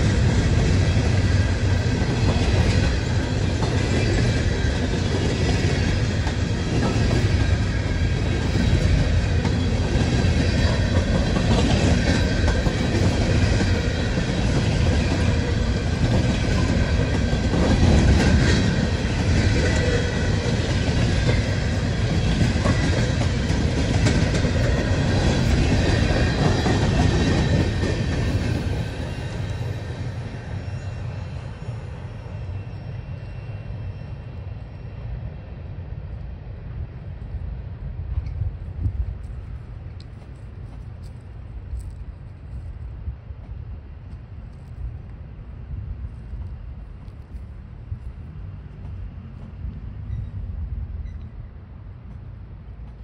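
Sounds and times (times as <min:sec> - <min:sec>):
train cars rolling on rails: 0:00.0 - 0:53.0.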